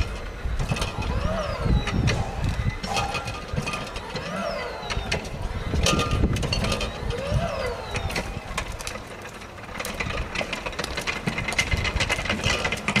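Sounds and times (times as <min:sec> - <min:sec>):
clicks and clunks on steps: 0:01.7 - 0:13.0.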